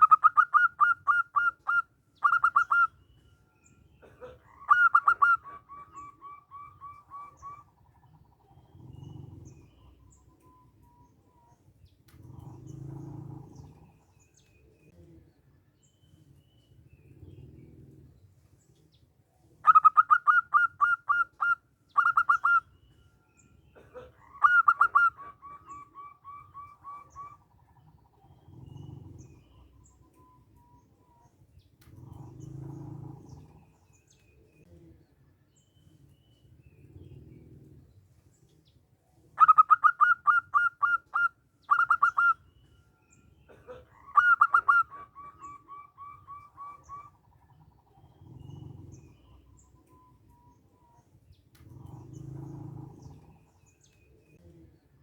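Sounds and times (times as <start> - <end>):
dove cooing: 0.0 - 3.1, 3.9 - 15.2, 19.6 - 22.9, 23.7 - 35.1, 36.6 - 55.0.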